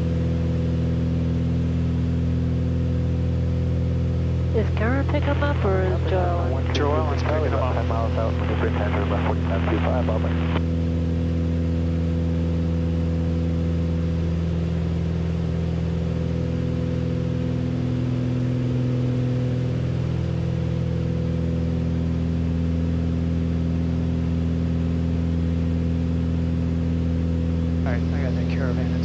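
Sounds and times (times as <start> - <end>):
propeller plane engines droning: 2.1 - 29.0.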